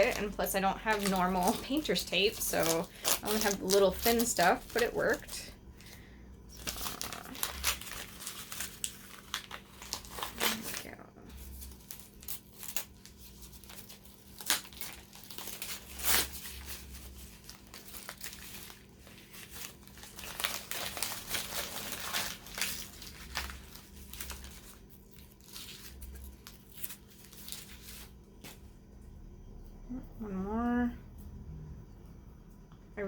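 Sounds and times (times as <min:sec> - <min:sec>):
tape peeling and crinkling: 0:00.0 - 0:05.9, 0:06.5 - 0:28.6.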